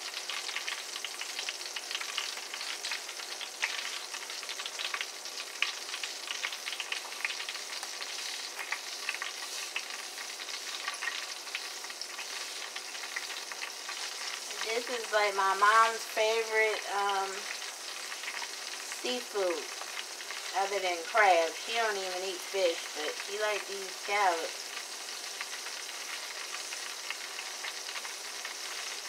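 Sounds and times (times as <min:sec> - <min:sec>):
scallops sizzling in oil: 0:00.0 - 0:29.0.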